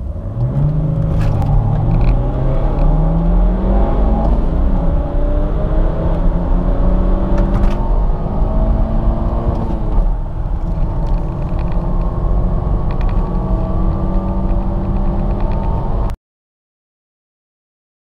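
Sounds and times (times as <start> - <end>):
car engine accelerating hard: 0.0 - 16.2.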